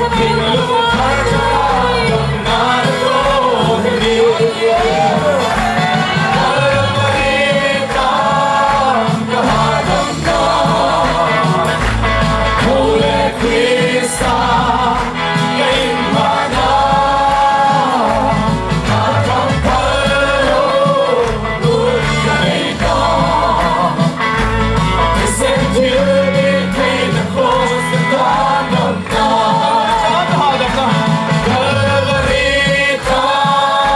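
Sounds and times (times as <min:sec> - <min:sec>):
gospel song sung over a band: 0:00.0 - 0:33.9.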